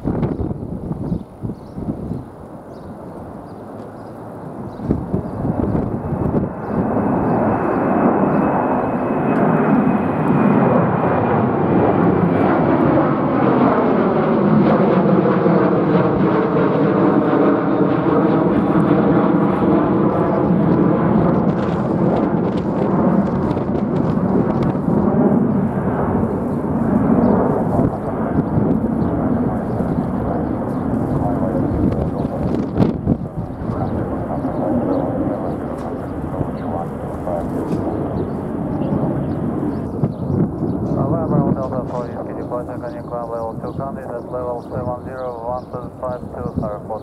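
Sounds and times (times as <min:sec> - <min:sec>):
jet engine roar overhead: 0:00.0 - 0:47.0.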